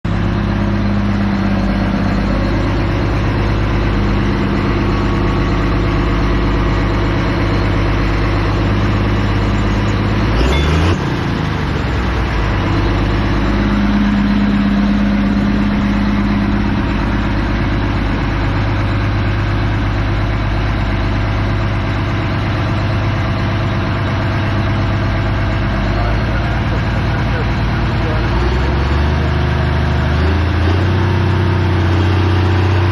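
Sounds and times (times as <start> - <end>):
tractor engine idling: 0.0 - 32.9.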